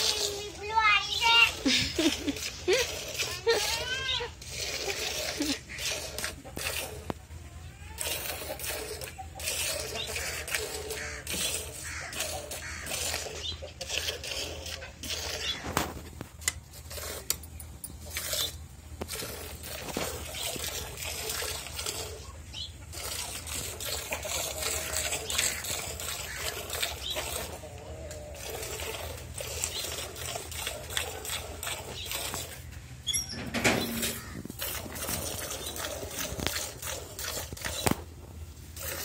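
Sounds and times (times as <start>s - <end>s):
milk squirting into bucket: 0.0s - 7.2s, 8.0s - 17.3s, 18.0s - 39.0s.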